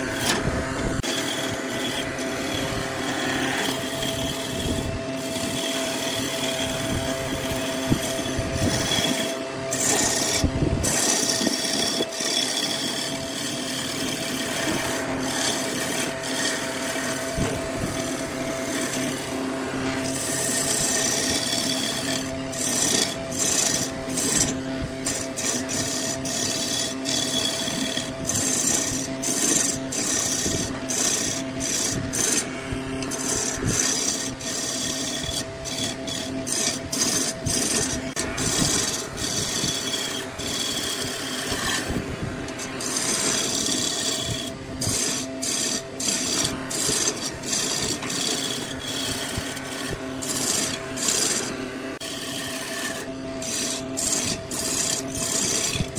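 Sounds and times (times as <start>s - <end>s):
turning tool scraping wood: 0.0s - 55.9s
wood lathe motor humming: 0.0s - 55.9s.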